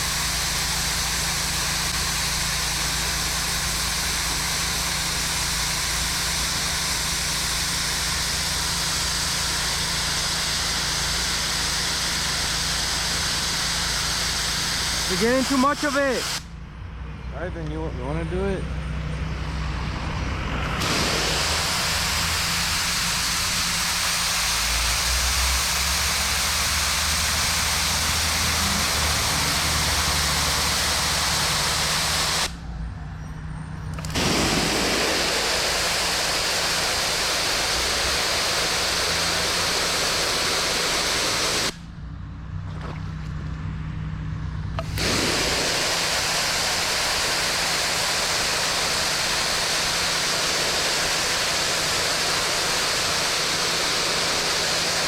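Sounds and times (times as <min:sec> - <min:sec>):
pressure washer spraying concrete: 0:00.0 - 0:16.5, 0:20.6 - 0:32.6, 0:34.0 - 0:41.8, 0:44.8 - 0:55.0
engine hum: 0:00.0 - 0:55.0.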